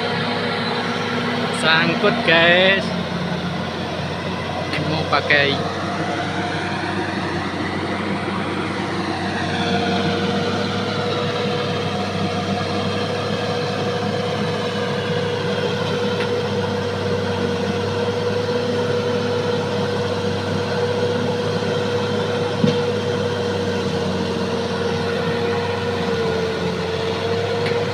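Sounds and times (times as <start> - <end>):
bulldozer diesel engine running: 0.0 - 27.9
steady whine: 0.0 - 27.9.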